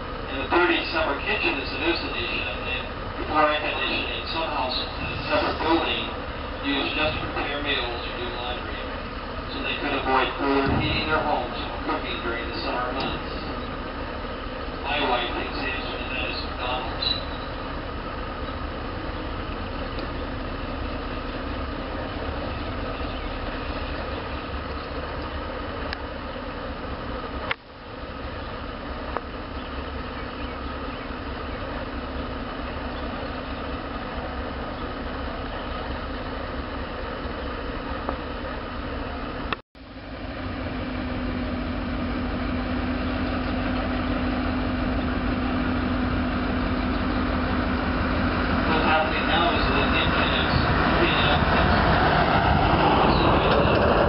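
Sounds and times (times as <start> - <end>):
locomotive engine rumbling: 0.0 - 54.0.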